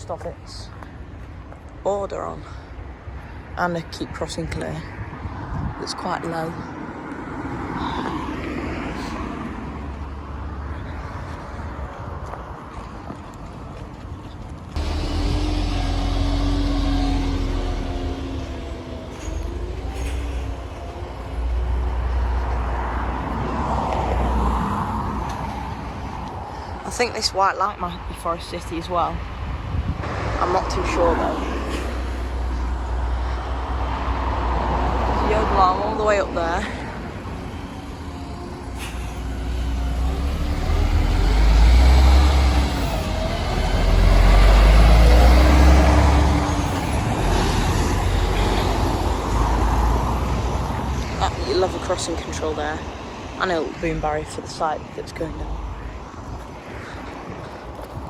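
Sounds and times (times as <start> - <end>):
traffic noise: 0.0 - 58.0
vehicle engine rumble: 0.0 - 58.0.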